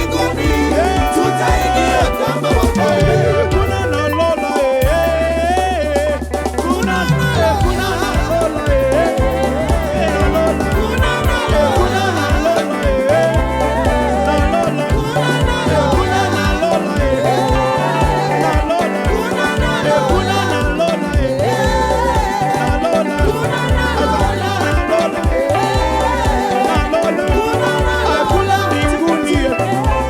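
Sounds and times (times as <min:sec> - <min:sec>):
live gospel band music: 0:00.0 - 0:30.0.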